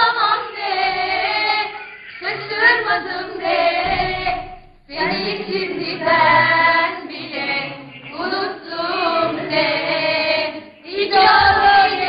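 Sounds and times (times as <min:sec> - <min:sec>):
girls singing in unison: 0:00.0 - 0:12.0.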